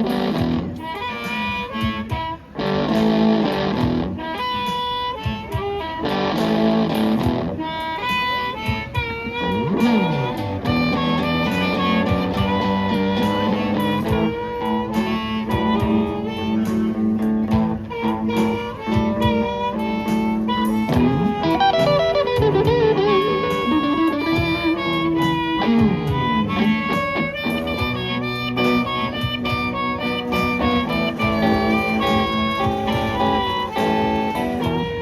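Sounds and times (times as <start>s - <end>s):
lead instrument bent notes: 0.0s - 35.0s
live blues band playing: 0.0s - 35.0s.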